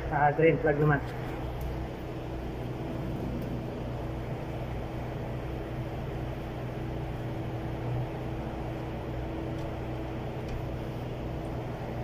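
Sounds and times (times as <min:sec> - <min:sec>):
machine hum with low drone: 0:00.0 - 0:12.0.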